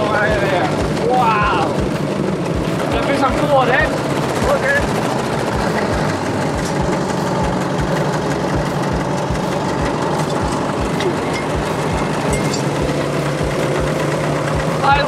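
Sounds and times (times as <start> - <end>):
steam engine chuffing: 0.0 - 15.0.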